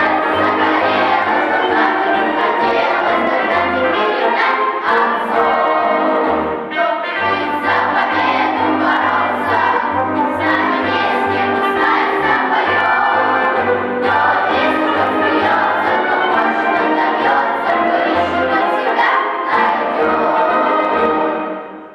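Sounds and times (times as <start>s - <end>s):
children's choir singing: 0.0s - 21.9s.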